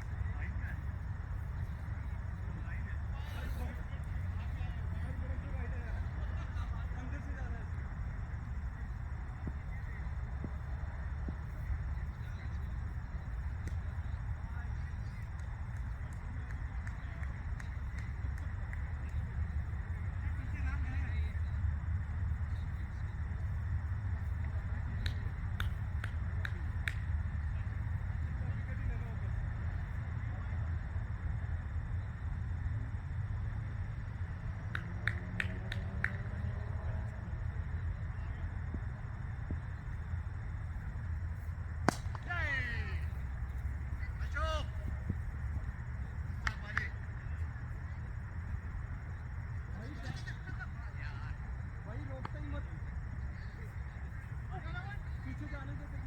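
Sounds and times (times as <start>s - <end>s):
outdoor background rumble: 0.0s - 56.0s.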